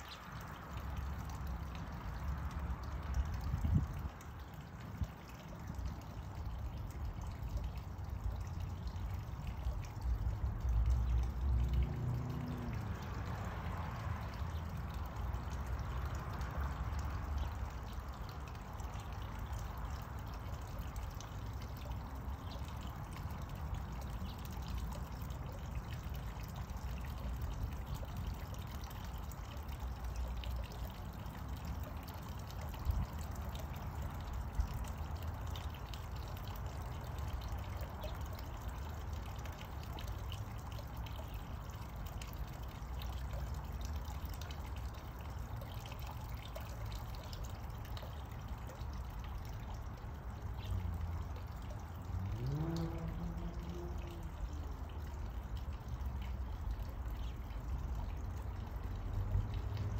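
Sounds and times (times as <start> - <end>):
trickling rushing water: 0.0 - 59.9.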